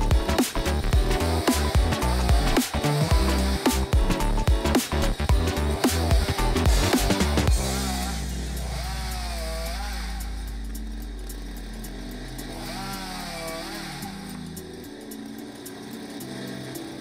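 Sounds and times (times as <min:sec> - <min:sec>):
chainsaw cutting a board: 0:00.0 - 0:17.0.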